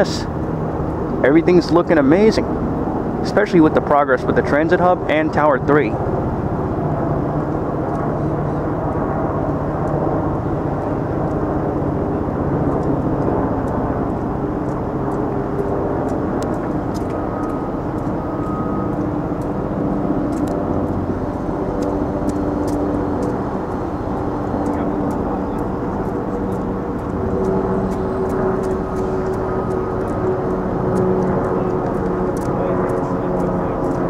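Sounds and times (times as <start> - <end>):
city traffic rumble: 0.0 - 34.0
held engine tones: 0.0 - 34.0.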